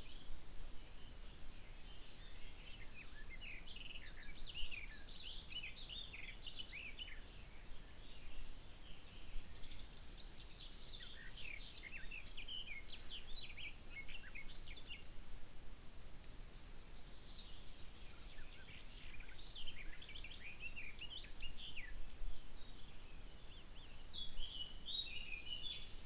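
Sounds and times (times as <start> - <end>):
low background hiss: 0.0 - 26.0
birds chirping and trilling: 1.0 - 15.6, 16.9 - 26.0.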